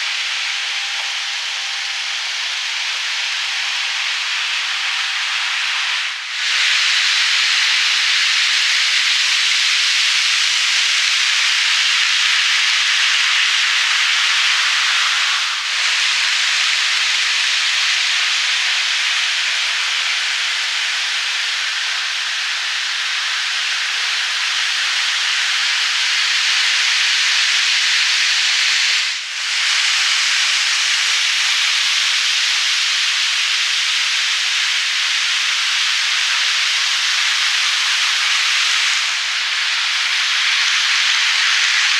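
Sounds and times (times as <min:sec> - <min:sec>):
model train wheels rushing hiss: 0:00.0 - 0:41.9.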